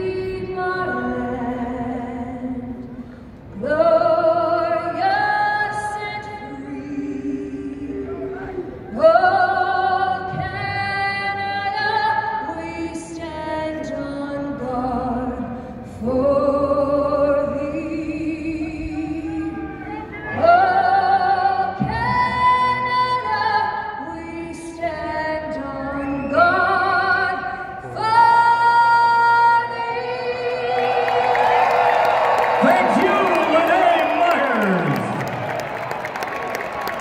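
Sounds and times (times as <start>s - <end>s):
woman singing with vibrato: 0.0s - 2.8s, 3.6s - 31.5s.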